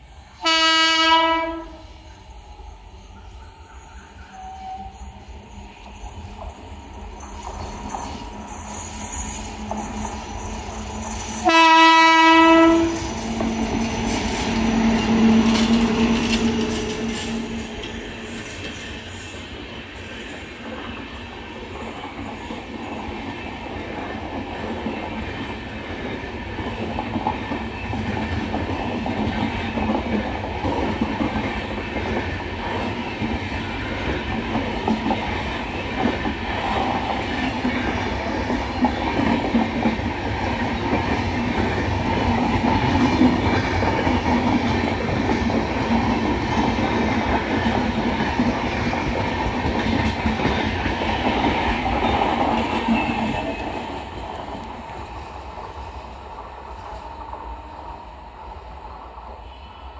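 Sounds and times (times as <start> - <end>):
train wheels rumbling and clacking: 0.0 - 59.4.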